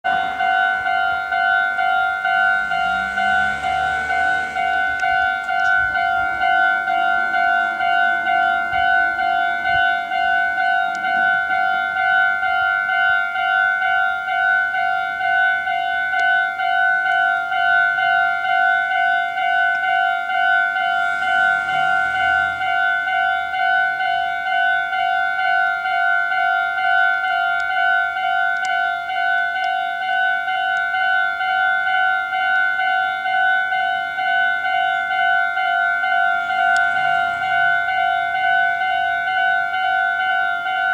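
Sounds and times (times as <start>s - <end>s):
level-crossing warning bell: 0.0s - 40.9s.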